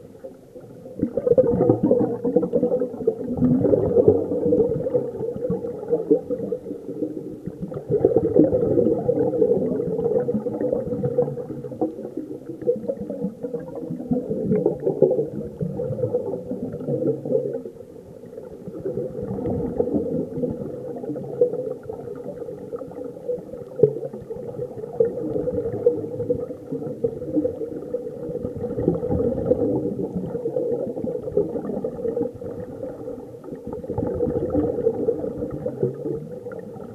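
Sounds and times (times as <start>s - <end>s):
bubbles gurgling: 0.0s - 36.9s.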